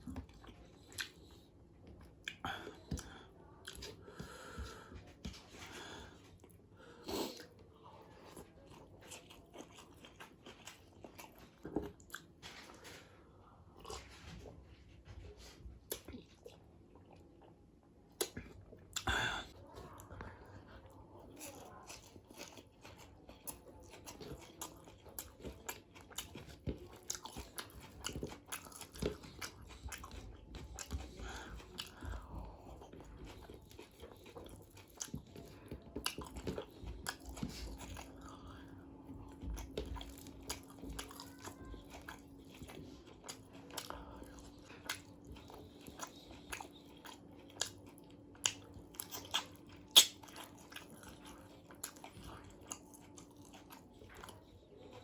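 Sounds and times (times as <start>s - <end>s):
chewing with crunchy bites: 0.0s - 55.0s
faint steady hum: 0.0s - 55.0s.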